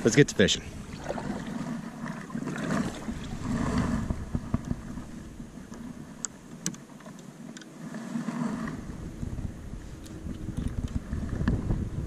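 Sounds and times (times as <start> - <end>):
wind buffeting microphone: 0.0 - 6.3, 8.4 - 12.0
water splashing around kayak: 0.0 - 11.8.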